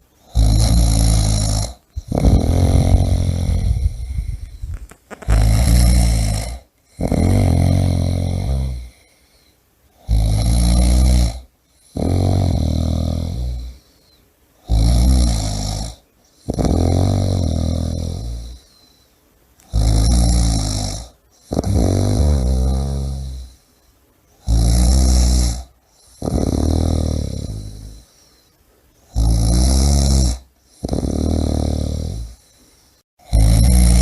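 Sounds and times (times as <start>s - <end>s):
person snoring loudly: 0.2s - 9.1s, 10.0s - 13.8s, 14.6s - 18.6s, 19.7s - 23.6s, 24.4s - 28.1s, 29.1s - 32.5s, 33.2s - 34.0s.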